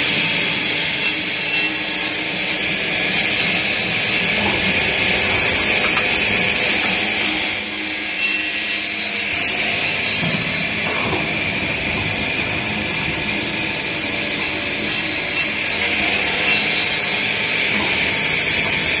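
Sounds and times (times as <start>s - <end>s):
band saw machine running: 0.0s - 19.0s.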